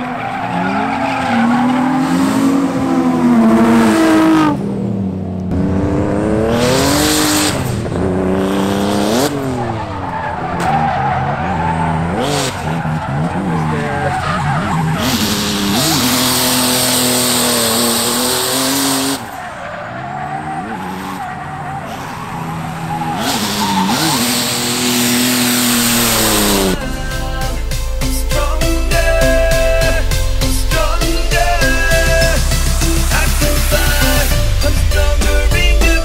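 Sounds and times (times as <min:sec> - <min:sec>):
tyres squealing and skidding: 0:00.0 - 0:04.6, 0:06.6 - 0:36.0
car engines revving: 0:00.0 - 0:36.0.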